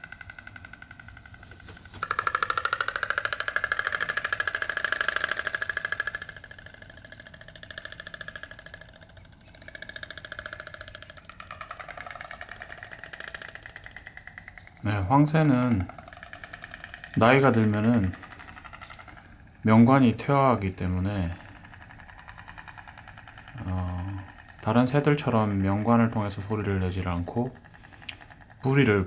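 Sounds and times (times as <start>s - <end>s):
stork bill clattering: 0.0s - 29.0s.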